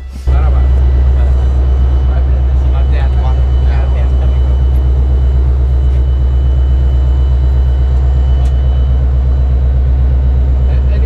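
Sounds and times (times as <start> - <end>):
diesel locomotive engine idling: 0.0 - 11.0.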